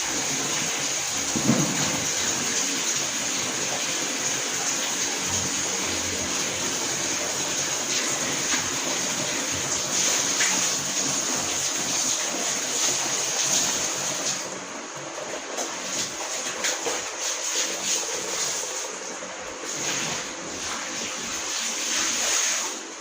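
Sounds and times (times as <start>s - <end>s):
water draining from washing machine: 0.0s - 23.0s.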